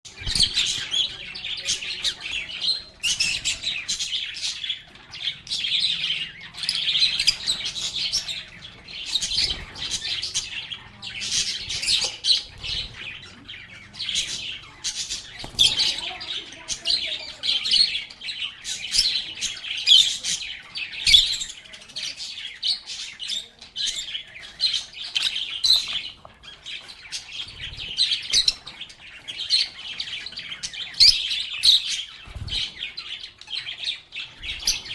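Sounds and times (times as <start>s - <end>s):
birds chirping and chattering: 0.0s - 34.9s.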